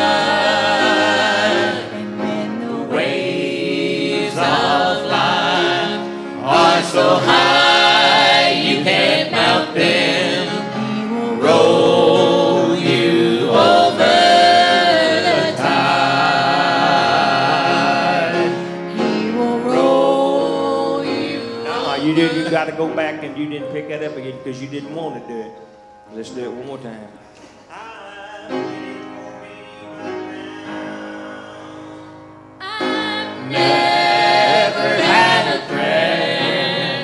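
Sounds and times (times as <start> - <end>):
people singing gospel in harmony: 0.0 - 23.4, 27.4 - 37.0.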